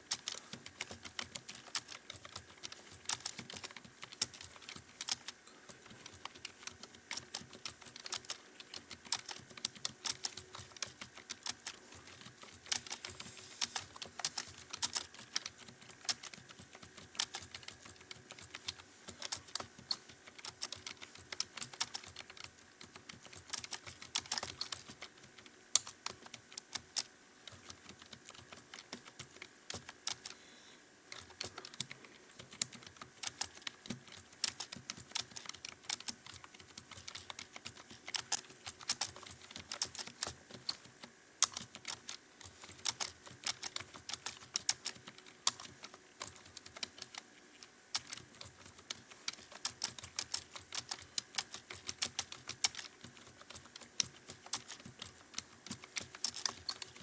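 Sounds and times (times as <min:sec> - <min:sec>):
fast typing on computer keyboard: 0:00.0 - 0:30.4, 0:31.0 - 0:57.0.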